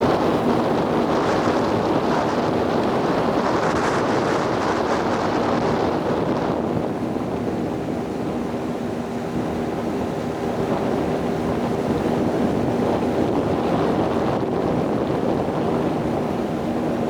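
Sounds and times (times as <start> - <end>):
water rushing past boat: 0.0 - 17.0
wind buffeting microphone: 0.0 - 17.0.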